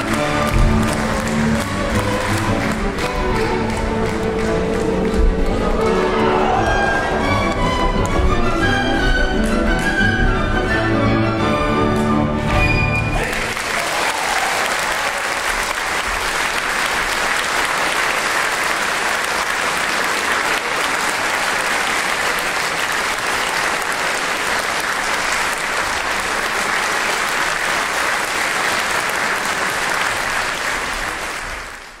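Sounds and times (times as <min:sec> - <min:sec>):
audience applauding: 0:00.0 - 0:10.5, 0:12.5 - 0:32.0.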